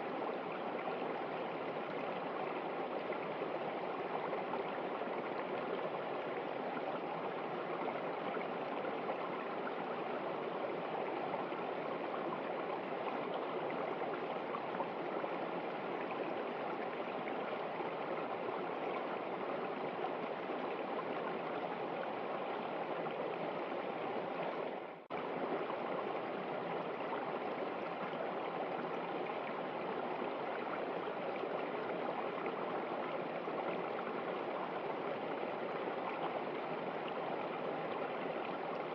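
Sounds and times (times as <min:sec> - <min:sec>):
river water running: 0:00.0 - 0:38.9.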